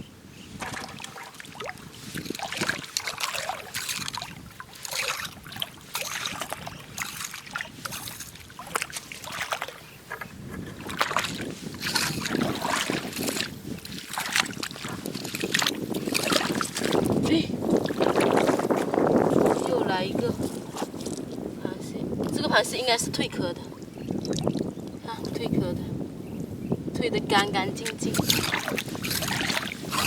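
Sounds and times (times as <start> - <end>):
splashing in shallow water: 0.5 - 21.4, 24.0 - 25.5, 27.7 - 30.0.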